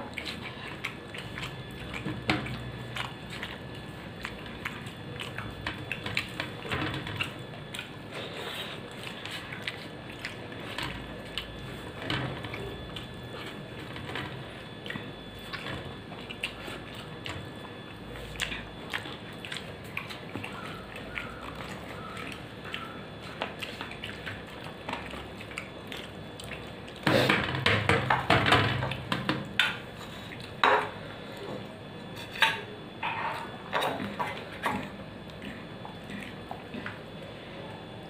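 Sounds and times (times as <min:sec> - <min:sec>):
chewing: 0:00.0 - 0:27.4, 0:29.6 - 0:38.0.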